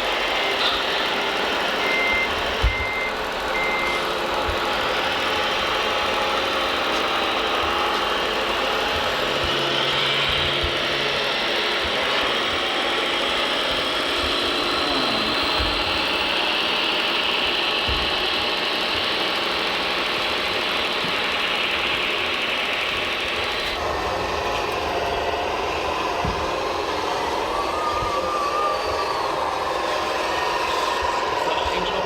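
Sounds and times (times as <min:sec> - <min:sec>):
whir of small motors: 0:00.0 - 0:32.0.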